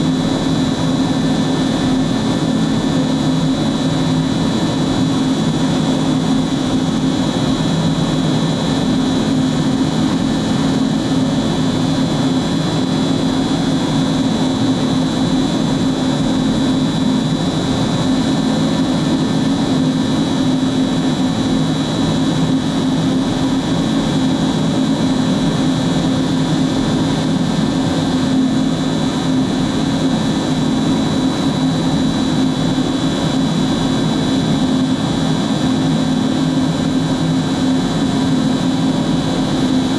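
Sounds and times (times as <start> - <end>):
cnc router high whine: 0.0 - 39.9.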